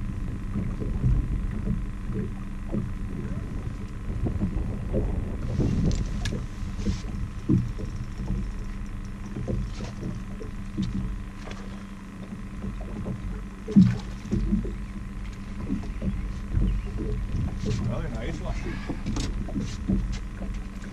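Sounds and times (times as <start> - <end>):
boat motor humming: 0.0 - 20.9
water slapping hull: 0.0 - 20.9.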